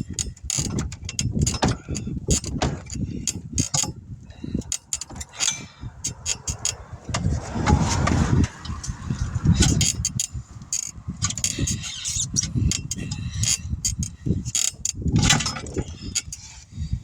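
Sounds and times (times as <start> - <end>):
metallic clicks and clanks: 0.0 - 16.8
tire machine low rumble: 0.0 - 17.0.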